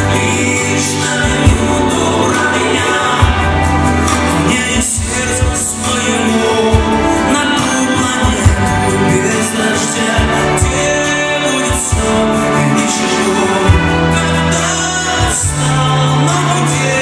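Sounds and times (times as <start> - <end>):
acoustic guitar: 0.0 - 17.0
bass: 0.0 - 17.0
man singing a ballad: 0.0 - 17.0.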